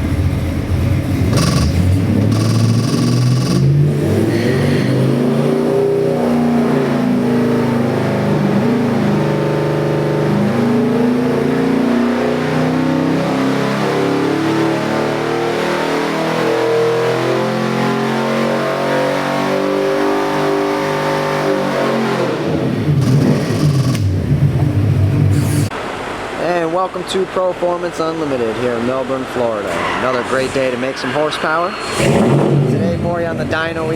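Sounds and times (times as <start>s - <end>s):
engine revving: 0.0s - 25.7s, 30.6s - 33.9s.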